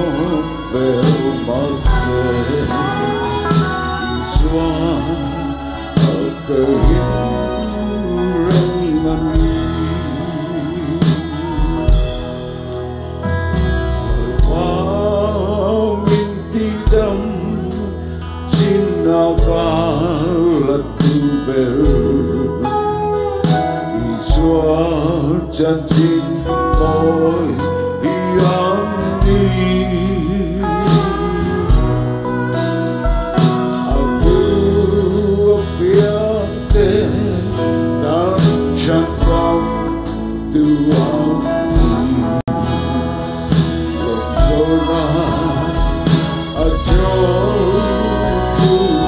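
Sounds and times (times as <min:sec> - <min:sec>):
man singing gospel: 0:00.0 - 0:12.8, 0:14.0 - 0:49.0
sharp drum beats: 0:00.0 - 0:20.4, 0:28.4 - 0:49.0
live band: 0:00.0 - 0:49.0.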